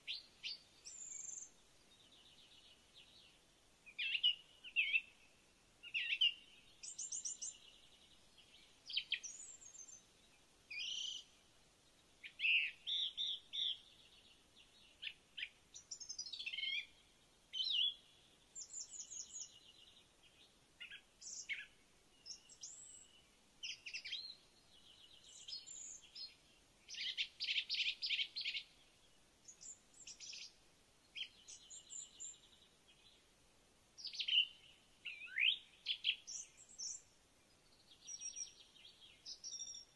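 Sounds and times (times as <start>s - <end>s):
birds chirping and trilling: 0.0s - 11.3s, 12.2s - 33.2s, 34.0s - 39.9s.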